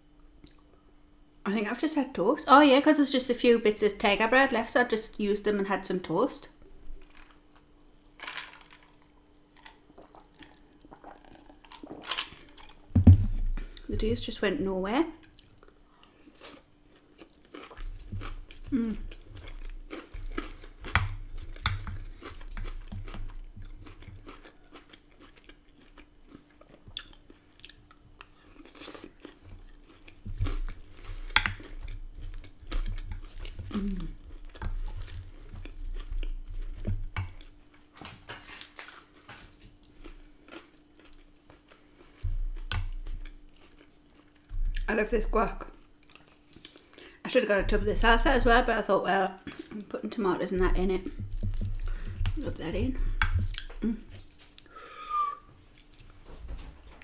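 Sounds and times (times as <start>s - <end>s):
chewing and crunching food: 0.4s - 0.8s, 6.6s - 14.1s, 15.1s - 54.7s, 55.5s - 57.0s.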